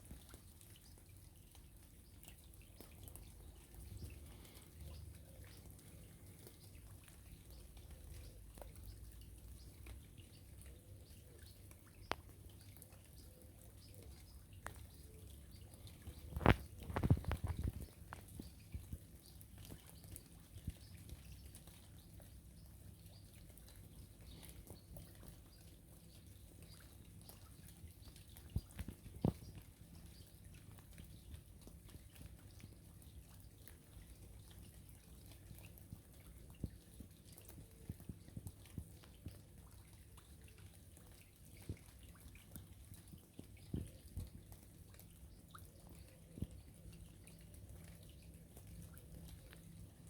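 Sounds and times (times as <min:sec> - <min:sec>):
low steady hiss: 0:00.0 - 0:50.0
rain drips and small splashes: 0:00.0 - 0:50.0.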